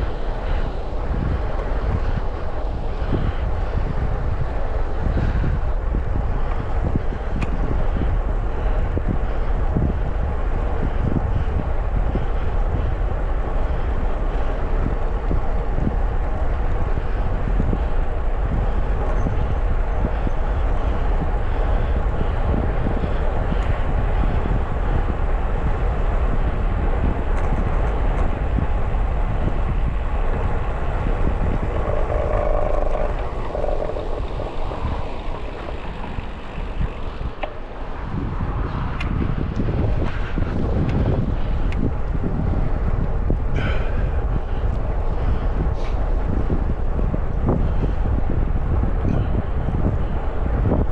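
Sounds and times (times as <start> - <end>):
road traffic noise: 0.0 - 50.9
wind buffeting microphone: 0.0 - 50.9.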